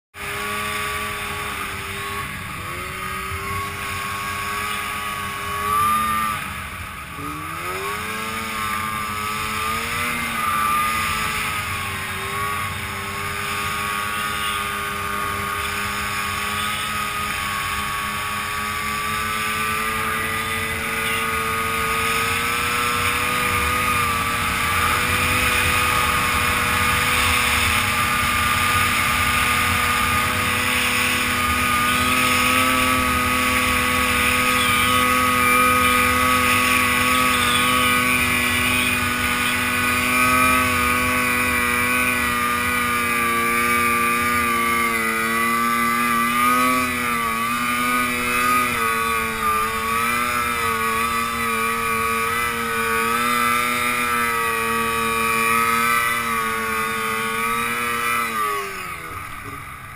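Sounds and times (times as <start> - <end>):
snowmobile engine running hard: 0.1 - 59.9.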